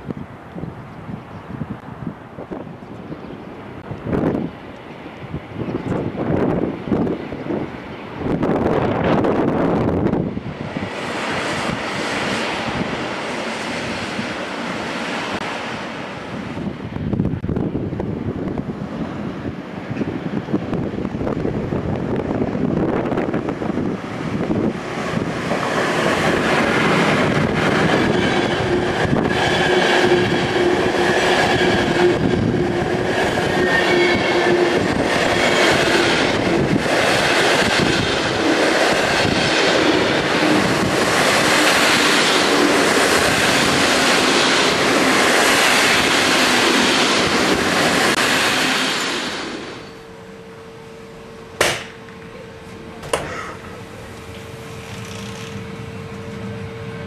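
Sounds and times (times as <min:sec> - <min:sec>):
train wheels rumbling: 0:01.8 - 0:57.0.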